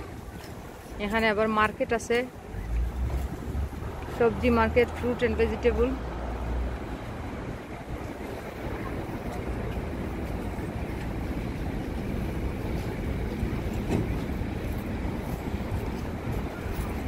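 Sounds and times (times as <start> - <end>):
outdoor street noise: 0.0 - 17.0
wind buffeting microphone: 0.0 - 17.0.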